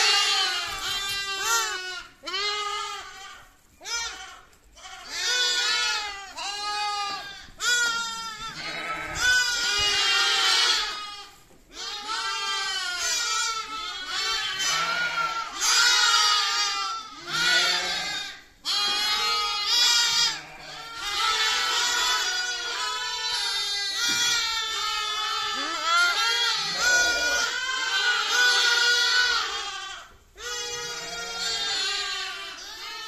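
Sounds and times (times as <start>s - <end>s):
lambs bleating: 0.0s - 33.0s.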